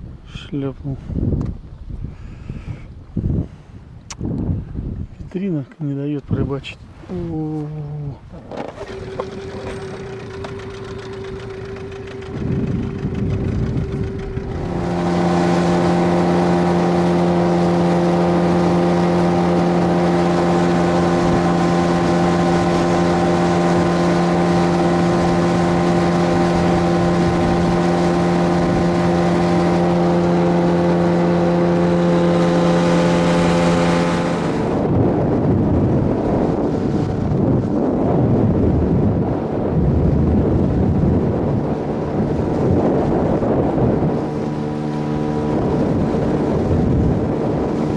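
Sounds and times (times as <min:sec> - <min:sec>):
wind: 0:00.0 - 0:47.9
water noise: 0:06.8 - 0:47.9
outboard motor running: 0:07.1 - 0:47.9.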